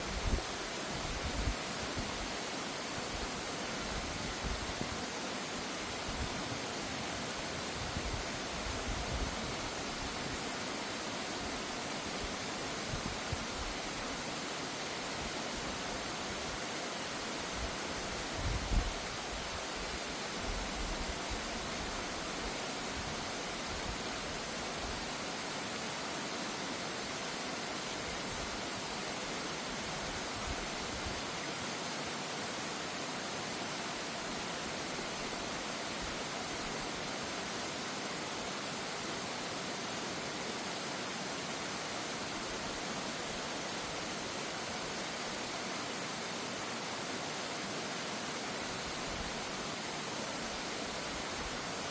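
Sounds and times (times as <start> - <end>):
mountain stream rushing: 0.0 - 51.9.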